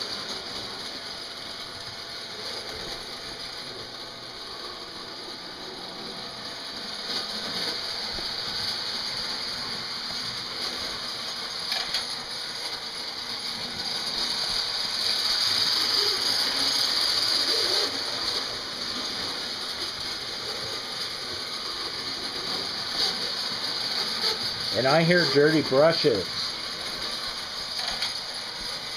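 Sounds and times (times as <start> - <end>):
model train rattling motor: 0.0 - 28.9.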